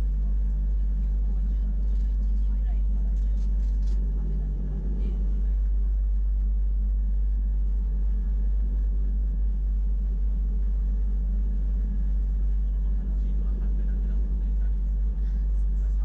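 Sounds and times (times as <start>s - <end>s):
electric train rumbling: 0.0s - 6.9s, 7.6s - 16.0s.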